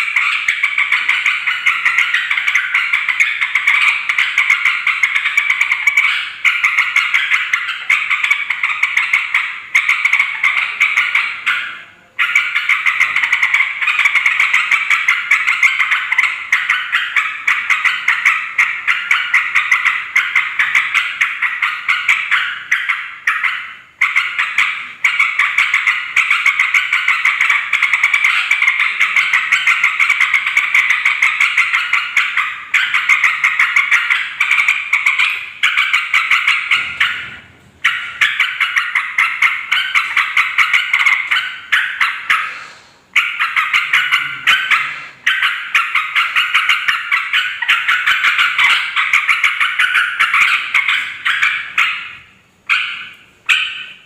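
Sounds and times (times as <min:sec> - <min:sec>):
birds chattering: 0:00.0 - 0:54.0.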